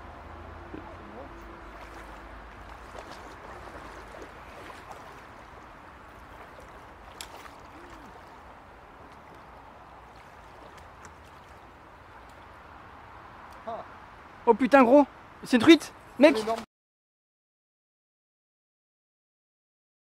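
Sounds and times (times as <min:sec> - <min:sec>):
stream water rushing: 0:00.0 - 0:16.7.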